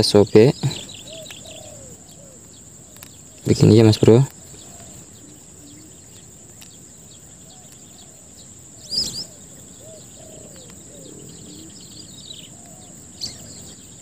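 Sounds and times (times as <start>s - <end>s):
birds chirping and calling: 0.0s - 14.0s
steady high-pitched hiss: 0.0s - 14.0s.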